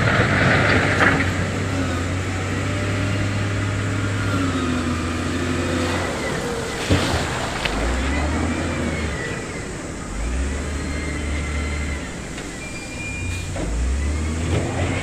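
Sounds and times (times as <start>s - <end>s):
diesel engine running: 0.0s - 15.0s
noisy rush: 0.0s - 15.0s.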